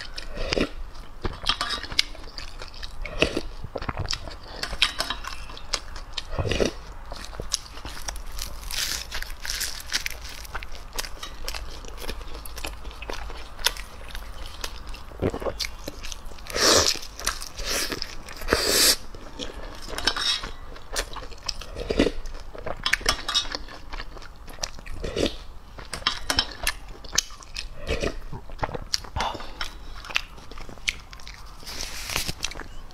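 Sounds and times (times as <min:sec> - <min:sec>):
chewing with mouth smacks: 0:00.0 - 0:32.9.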